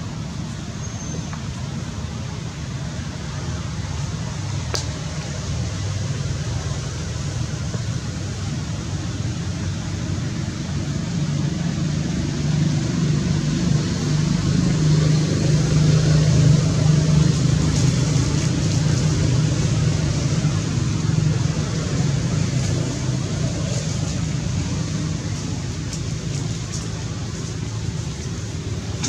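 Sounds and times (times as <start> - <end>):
vehicle engine hum: 0.0 - 29.0.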